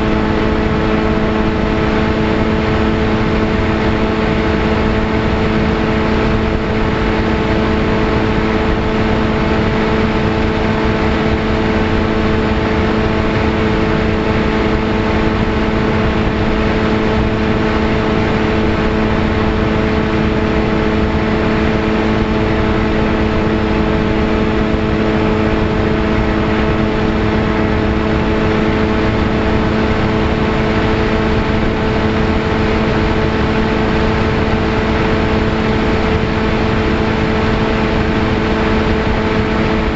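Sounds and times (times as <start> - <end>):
electric motor and propeller buzzing: 0.0 - 39.9
wind on microphone: 0.0 - 39.9.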